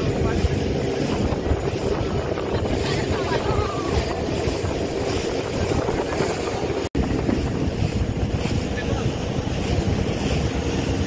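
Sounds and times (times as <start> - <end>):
motorboat engine running: 0.0 - 11.0
wind buffeting microphone: 0.0 - 11.0.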